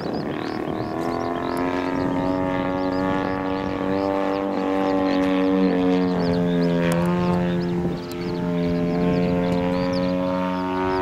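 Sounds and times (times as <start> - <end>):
model airplane motor: 0.0 - 11.0
small birds chirping: 0.0 - 11.0.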